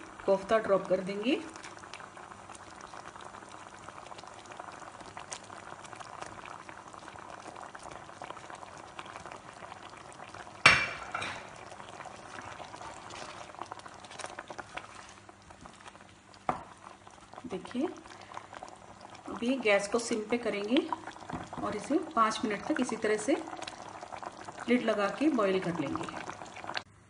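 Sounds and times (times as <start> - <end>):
gravy bubbling in a pan: 0.0 - 27.0.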